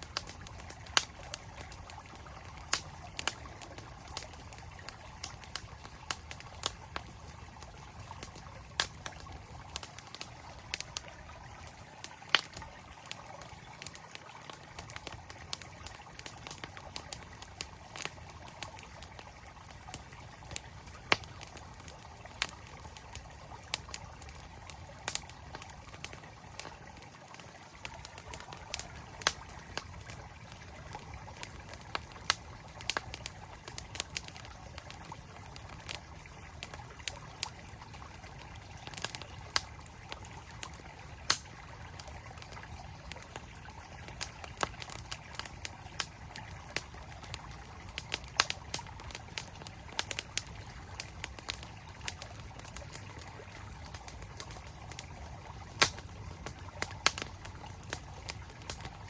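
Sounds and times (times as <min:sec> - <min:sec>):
campfire crackling and popping: 0:00.0 - 0:59.0
stream water flowing: 0:00.0 - 0:59.0.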